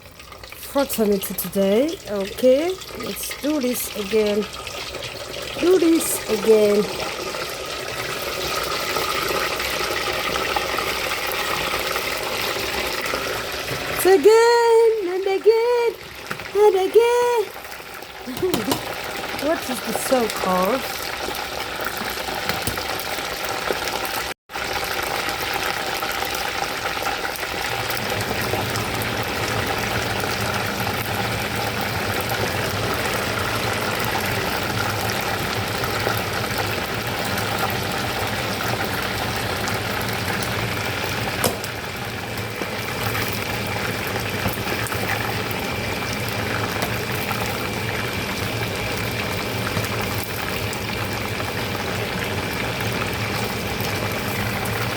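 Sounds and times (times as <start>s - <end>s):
chicken deep-frying in hot oil: 0.0s - 54.9s.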